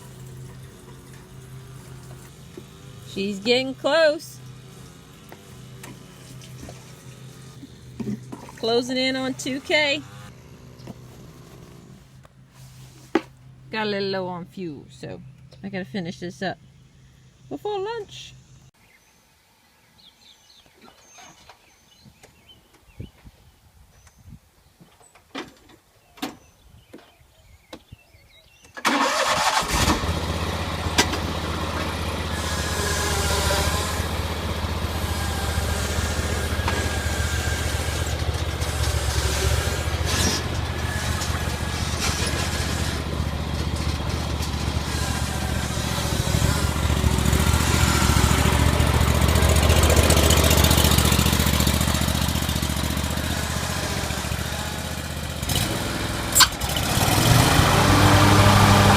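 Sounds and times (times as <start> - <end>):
lawn mower engine running: 0.0 - 18.6, 28.8 - 58.9.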